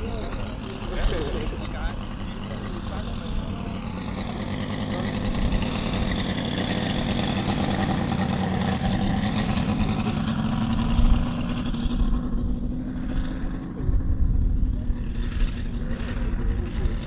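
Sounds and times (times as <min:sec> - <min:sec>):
model plane engine flying past: 0:00.0 - 0:17.0.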